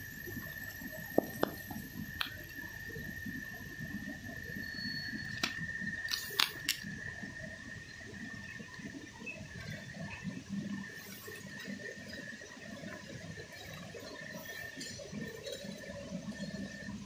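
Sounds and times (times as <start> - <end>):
packing machine hum and whine: 0.0 - 17.0.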